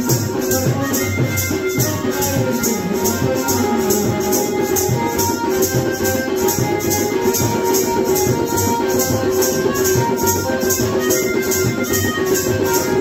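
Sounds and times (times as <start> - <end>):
music with rattling beat: 0.0 - 13.0.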